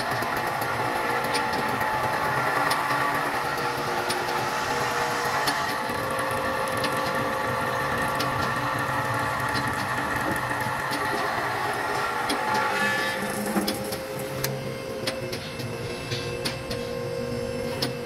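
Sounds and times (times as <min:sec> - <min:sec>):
electric pump humming: 0:00.0 - 0:18.0.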